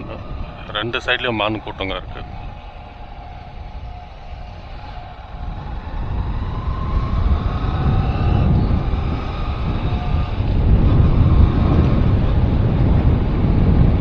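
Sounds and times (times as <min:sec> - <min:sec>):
vehicle running along road: 0:00.0 - 0:14.0
wind buffeting microphone: 0:00.0 - 0:14.0.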